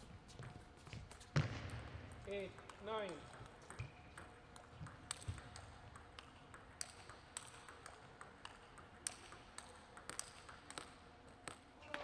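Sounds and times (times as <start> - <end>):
table tennis ball bouncing: 0.3 - 12.0.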